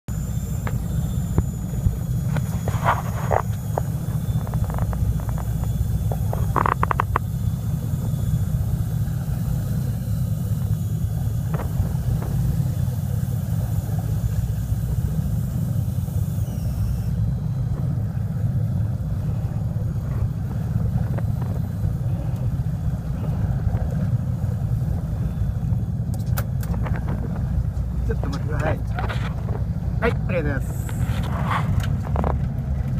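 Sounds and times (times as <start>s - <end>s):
boat engine rumbling: 0.0s - 32.9s.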